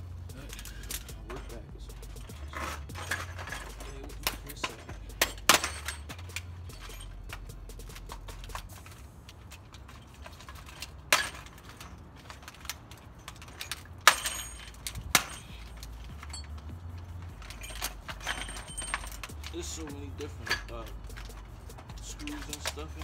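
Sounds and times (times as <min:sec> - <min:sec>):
low steady rumble: 0:00.0 - 0:12.7, 0:13.3 - 0:23.0
metal parts clinking: 0:00.2 - 0:23.0.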